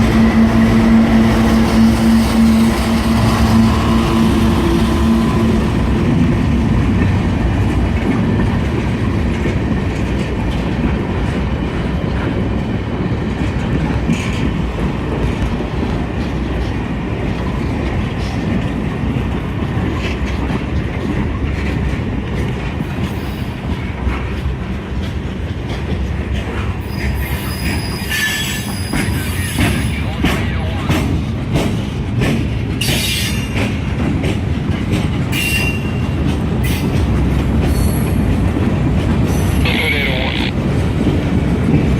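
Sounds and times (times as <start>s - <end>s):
freight train rumble and wheel clatter: 0.0s - 41.9s.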